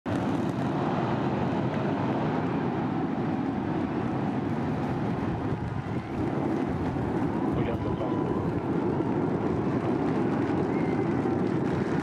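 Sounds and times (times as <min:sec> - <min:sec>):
rocket engine rumble: 0:00.1 - 0:12.0.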